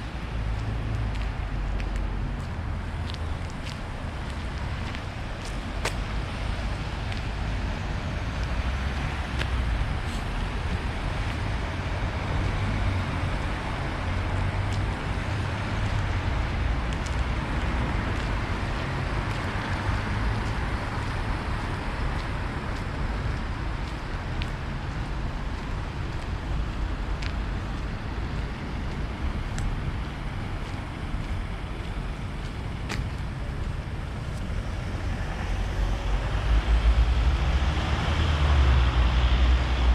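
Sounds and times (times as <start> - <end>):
low traffic rumble: 0.0 - 39.9
vehicles passing with tyre noise: 0.0 - 39.9.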